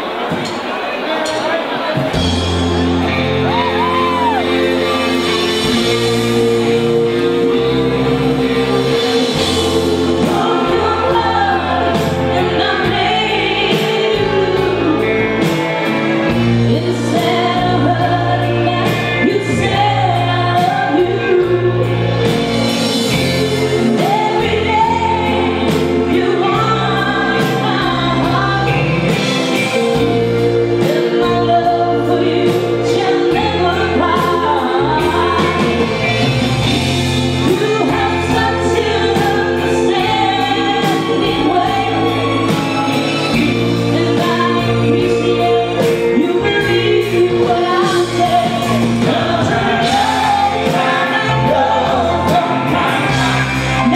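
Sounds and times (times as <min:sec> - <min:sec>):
drums: 0:00.0 - 0:53.9
pop band playing: 0:00.0 - 0:53.9
woman singing into a microphone: 0:03.5 - 0:15.5, 0:16.5 - 0:22.2, 0:23.0 - 0:35.9, 0:37.3 - 0:53.9.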